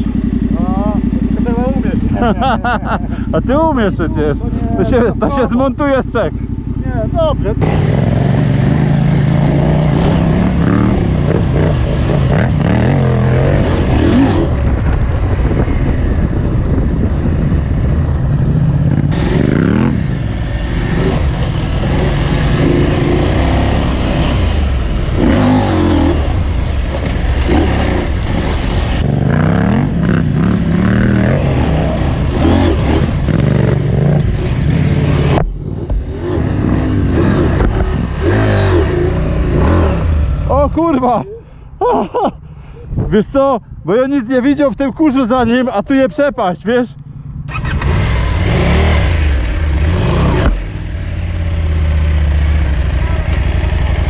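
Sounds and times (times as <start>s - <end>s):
motorcycle engine revving: 0.0s - 41.2s, 46.9s - 54.0s.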